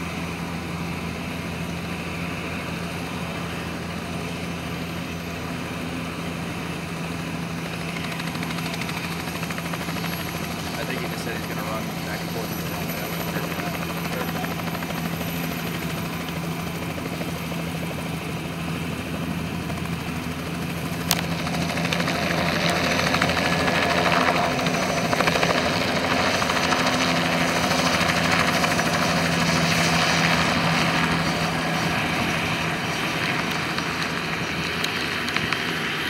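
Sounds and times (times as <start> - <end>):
helicopter turbine and rotor: 0.0 - 36.0.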